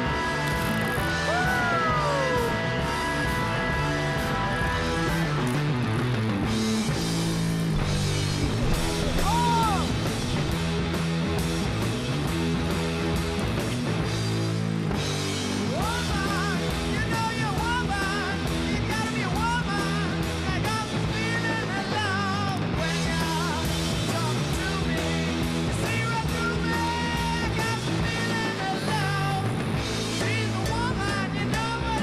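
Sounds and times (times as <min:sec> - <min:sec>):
rock song with guitar and singing: 0:00.0 - 0:32.0.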